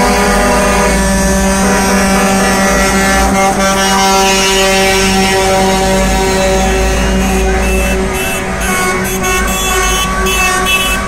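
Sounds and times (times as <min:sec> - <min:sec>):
diesel engines rumbling: 0:00.0 - 0:11.0
truck air horns: 0:00.0 - 0:11.0.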